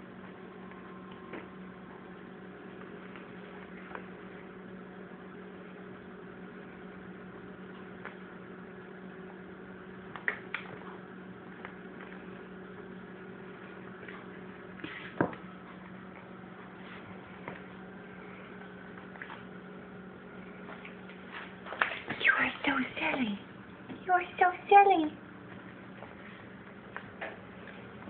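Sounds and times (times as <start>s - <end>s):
low appliance hum: 0.0s - 28.0s.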